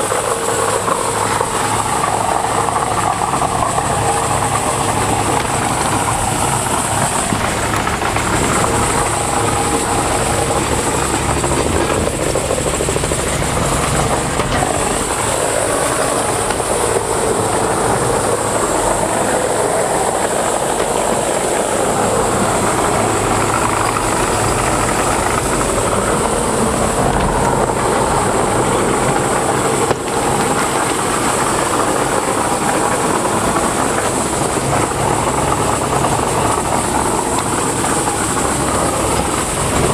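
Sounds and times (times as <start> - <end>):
wood chipper engine hum: 0.0 - 39.9.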